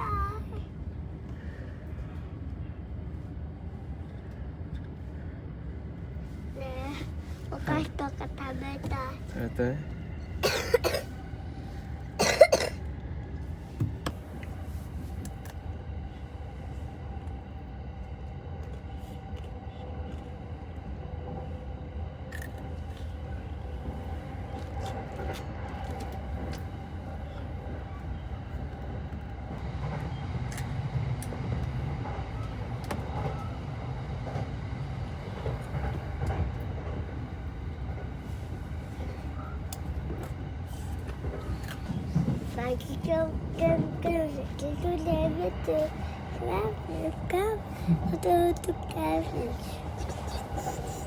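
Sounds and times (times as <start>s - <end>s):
train rumble: 0.0s - 51.0s.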